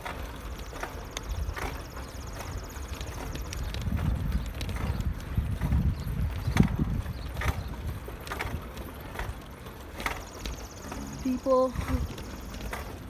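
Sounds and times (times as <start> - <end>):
bicycle rolling over rough ground: 0.0 - 13.0.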